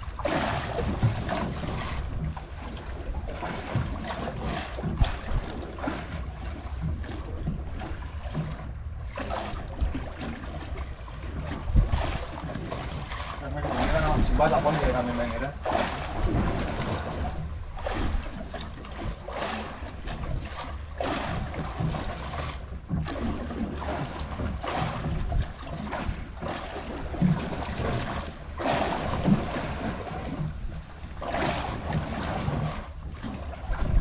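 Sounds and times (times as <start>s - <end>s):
water slapping boat hull: 0.0s - 34.0s
wind rumble on microphone: 0.0s - 34.0s.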